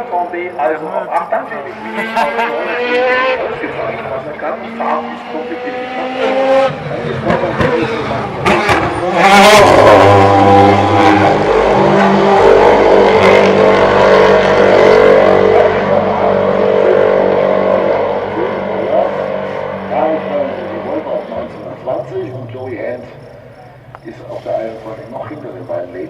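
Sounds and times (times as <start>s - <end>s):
racing cars passing at full throttle: 0.0s - 26.0s.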